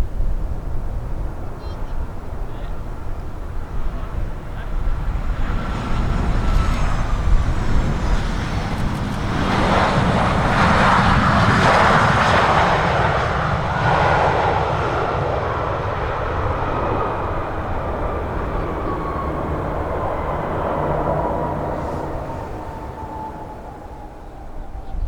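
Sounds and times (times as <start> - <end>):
wind rumble on microphone: 0.0 - 25.0
airliner engines passing: 0.3 - 25.0.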